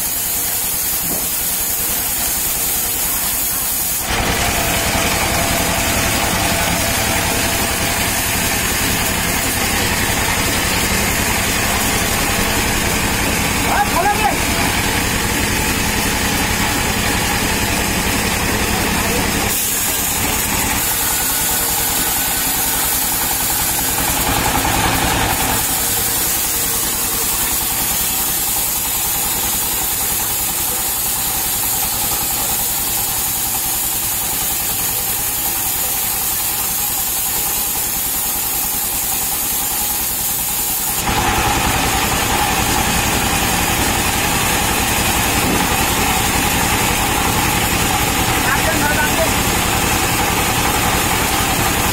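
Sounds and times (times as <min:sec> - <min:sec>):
band saw cutting log hiss: 0:00.0 - 0:17.4, 0:19.5 - 0:51.9
stationary engine running: 0:00.0 - 0:51.9.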